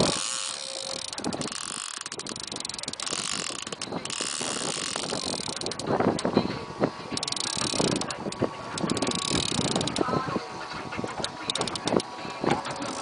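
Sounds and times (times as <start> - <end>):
fishing reel ratcheting clicks: 0.0 - 6.0, 7.2 - 10.1, 11.2 - 13.0
wind on microphone: 0.0 - 13.0.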